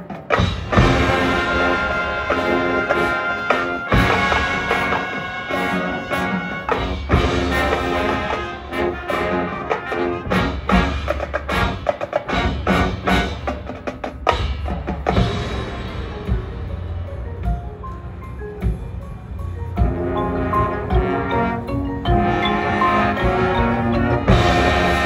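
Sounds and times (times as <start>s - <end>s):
drums: 0.0s - 25.0s
marching band playing: 0.0s - 25.0s.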